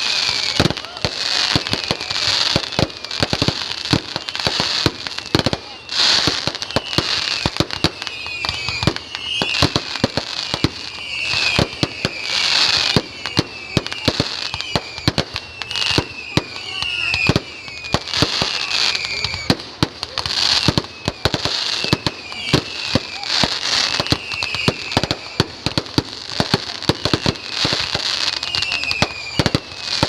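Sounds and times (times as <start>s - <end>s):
fireworks bangs and pops: 0.0s - 30.0s.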